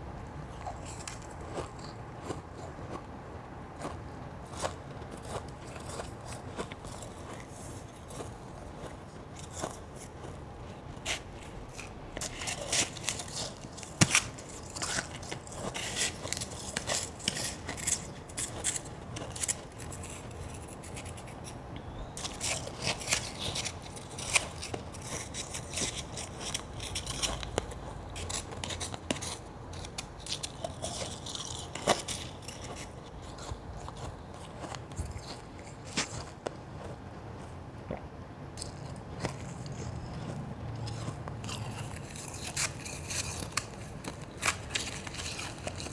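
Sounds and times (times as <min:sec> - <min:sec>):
ice being chewed: 0:00.4 - 0:45.9.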